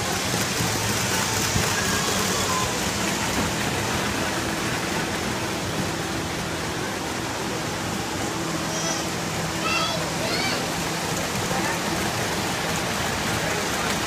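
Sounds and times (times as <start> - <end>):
steady hiss-like background din: 0.0 - 14.0.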